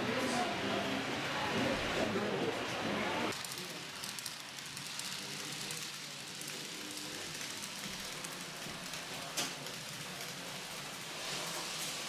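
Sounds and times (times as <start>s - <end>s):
model train wheels rolling on track: 0.0s - 12.0s.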